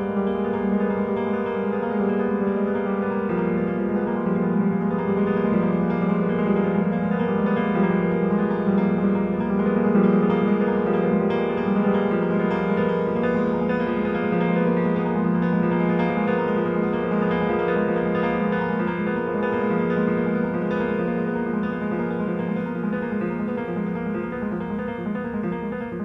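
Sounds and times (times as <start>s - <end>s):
solo grand piano: 0.0s - 26.0s.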